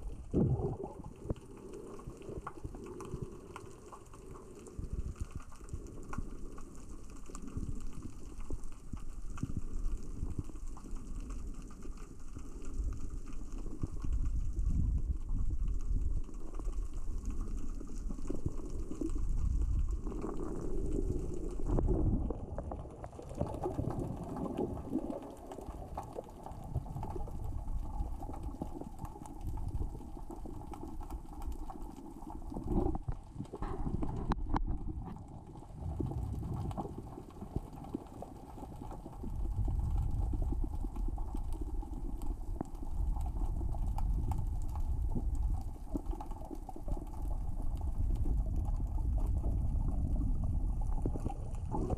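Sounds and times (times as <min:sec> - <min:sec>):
small rocks clicking on sea floor: 0:00.0 - 0:51.9
underwater low rumble: 0:00.0 - 0:51.9.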